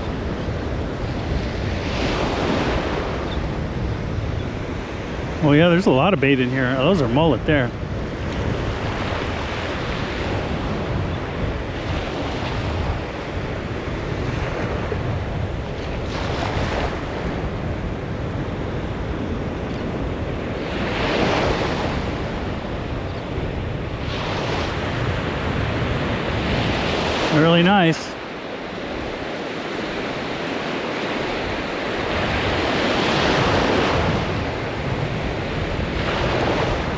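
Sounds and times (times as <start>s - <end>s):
surf washing onto beach: 0.0s - 36.9s
waves breaking: 0.0s - 36.9s
wind buffeting microphone: 0.0s - 36.9s.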